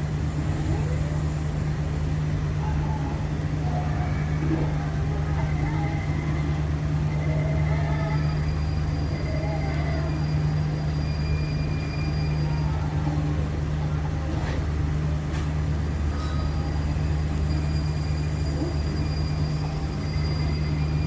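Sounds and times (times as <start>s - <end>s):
low hum inside train coach: 0.0s - 21.0s.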